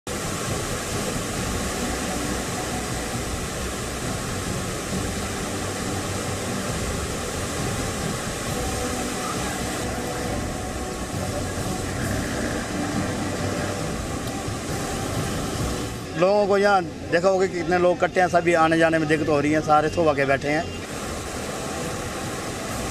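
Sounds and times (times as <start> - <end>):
river rushing roar: 0.1 - 22.9.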